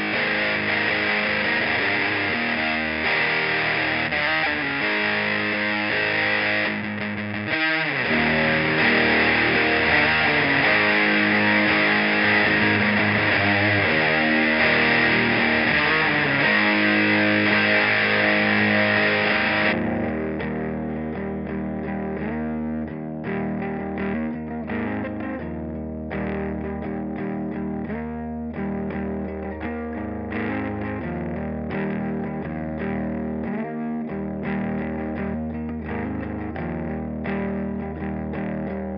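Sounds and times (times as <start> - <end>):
distorted electric guitar riff: 0.0 - 38.9.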